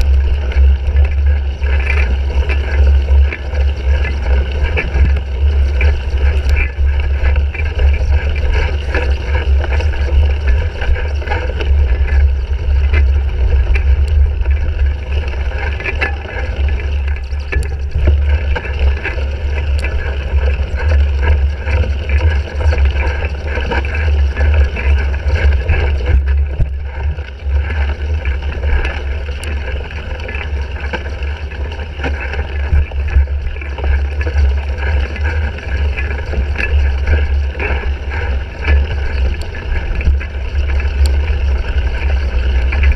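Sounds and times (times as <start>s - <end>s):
bike rattling over rough ground: 0.0s - 42.9s
wind rumble on microphone: 0.0s - 42.9s.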